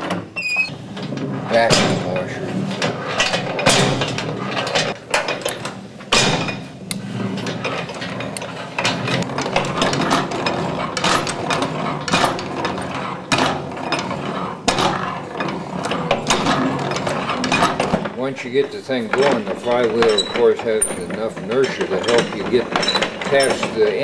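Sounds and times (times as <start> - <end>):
hand-operated washing machines clattering: 0.0 - 24.0.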